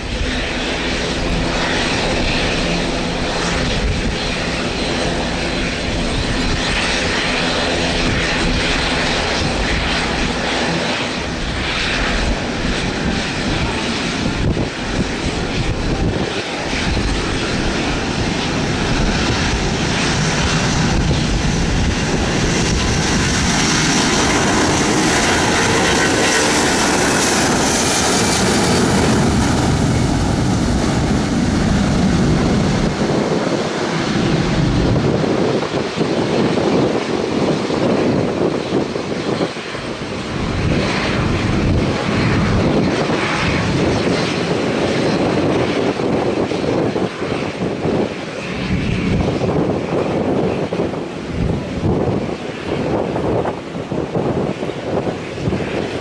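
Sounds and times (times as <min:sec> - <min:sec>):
aircraft engines running: 0:00.0 - 0:56.0.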